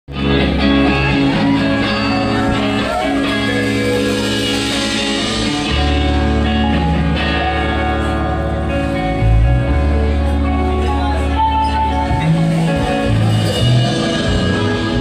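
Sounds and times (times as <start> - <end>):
live rock band playing: 0.1 - 15.0.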